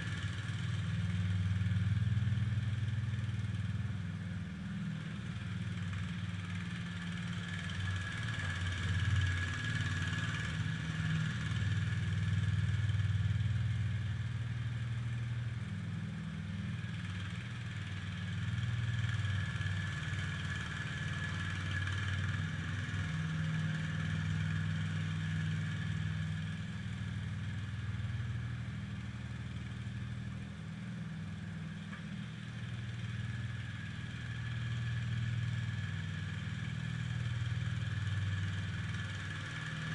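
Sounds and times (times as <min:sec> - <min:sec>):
garden tractor engine under load: 0:00.0 - 0:39.9.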